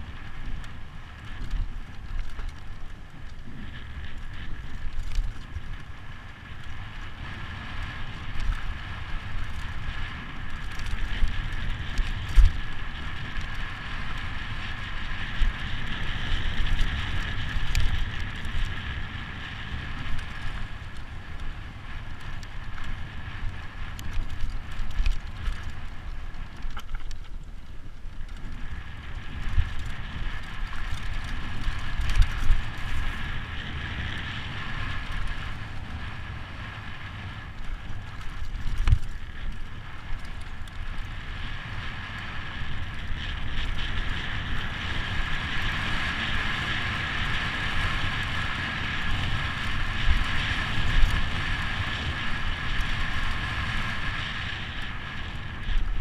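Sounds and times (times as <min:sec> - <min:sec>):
bike knocking and rattling: 0:00.0 - 0:56.0
tyres on loose dirt: 0:00.0 - 0:56.0
wind rushing over microphone: 0:00.0 - 0:56.0.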